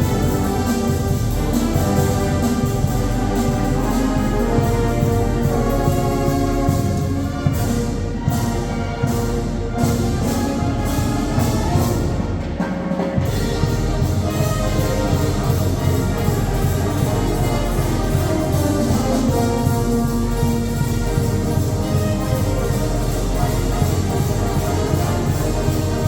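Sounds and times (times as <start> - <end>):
brass band playing: 0.0 - 26.0
drum strokes: 0.0 - 26.0.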